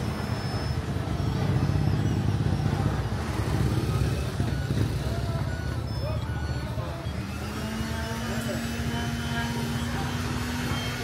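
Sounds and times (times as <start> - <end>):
engine running close by: 0.0 - 11.0
motor traffic rumble: 0.0 - 11.0.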